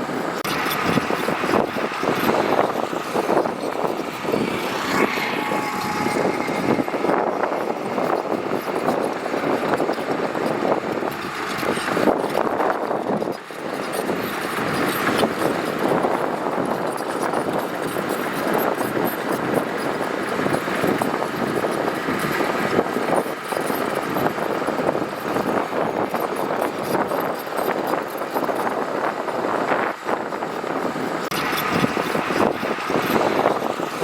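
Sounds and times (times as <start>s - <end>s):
heavy diesel machinery working gravel: 0.0s - 34.0s.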